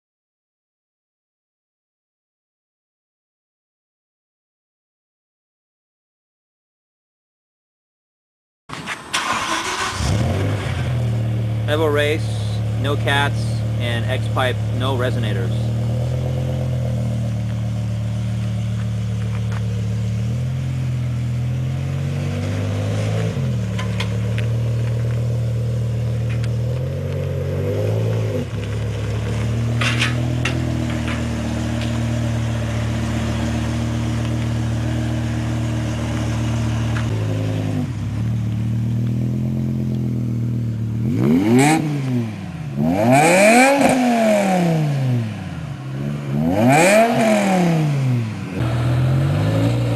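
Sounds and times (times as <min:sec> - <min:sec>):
car engine idling and revving: 0:08.7 - 0:49.9.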